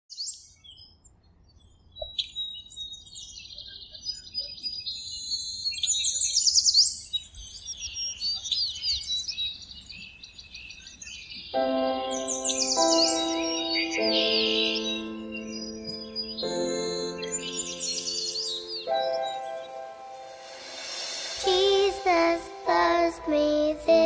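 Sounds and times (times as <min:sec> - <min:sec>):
birds chirping and singing: 0:02.0 - 0:24.0.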